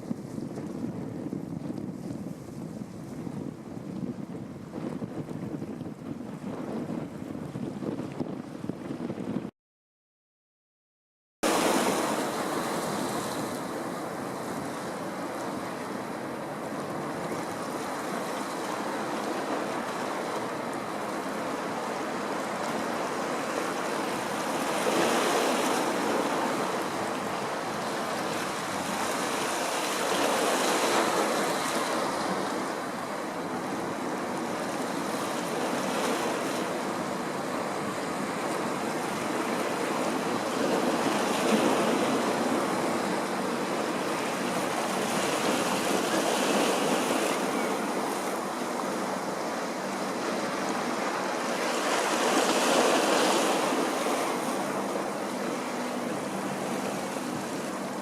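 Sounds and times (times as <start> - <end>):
wind: 0.0 - 9.5, 11.4 - 58.0
waves washing against shore: 11.4 - 58.0.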